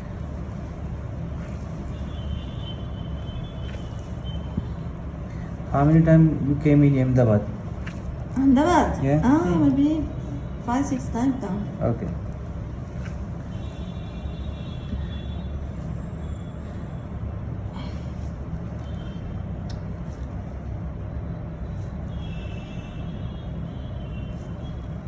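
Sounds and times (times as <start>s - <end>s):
low mechanical rumble: 0.0s - 25.0s.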